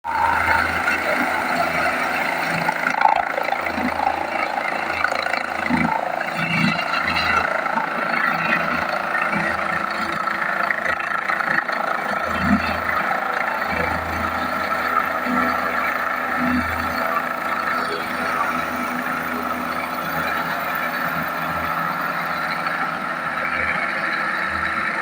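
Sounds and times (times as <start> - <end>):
helicopter drone: 0.0 - 25.0.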